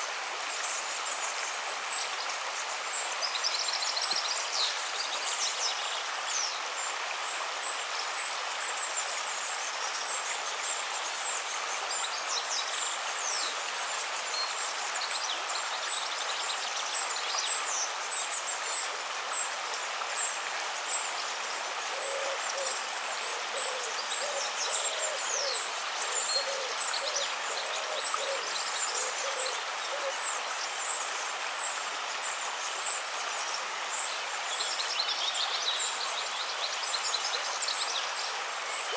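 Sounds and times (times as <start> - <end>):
river water running: 0.0 - 38.9.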